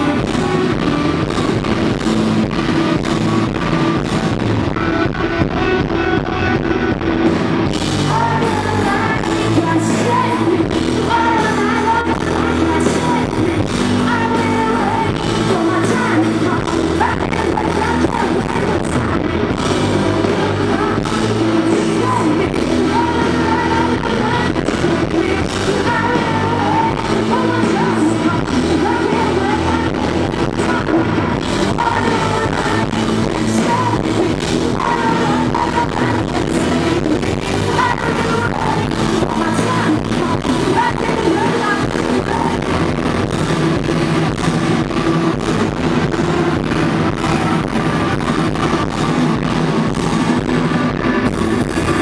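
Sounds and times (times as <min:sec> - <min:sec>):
live rock band playing: 0:00.0 - 0:52.0
man singing lead vocal: 0:00.0 - 0:52.0.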